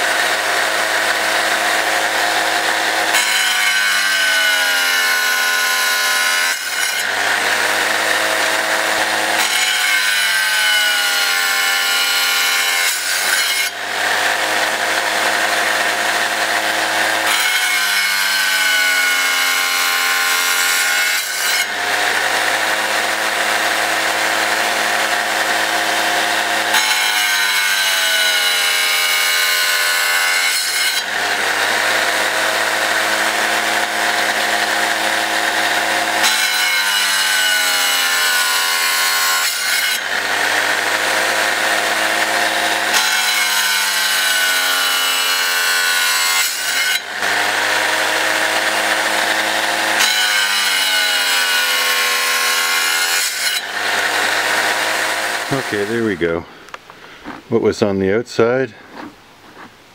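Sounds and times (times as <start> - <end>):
tile saw motor whine: 0.0 - 56.2.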